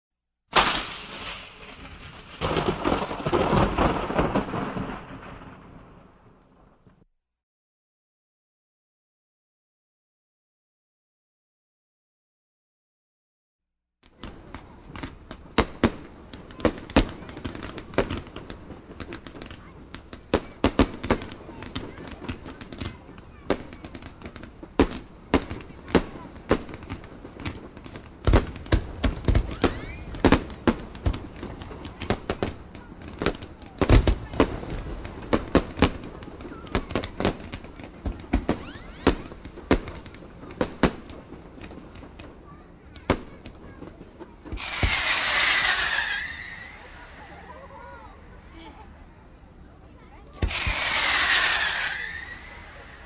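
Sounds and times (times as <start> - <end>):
fireworks bangs and crackles: 0.5 - 7.0, 14.0 - 53.0.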